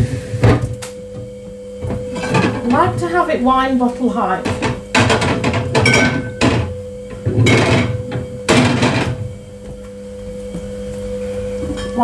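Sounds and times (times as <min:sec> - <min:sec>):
fridge items clattering: 0:00.0 - 0:10.1
faint steady hum: 0:00.0 - 0:12.0.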